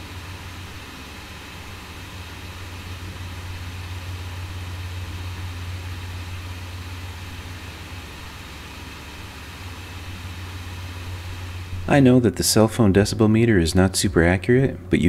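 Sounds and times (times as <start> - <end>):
cooling fan air rush: 0.0 - 15.0
low hum: 0.0 - 15.0.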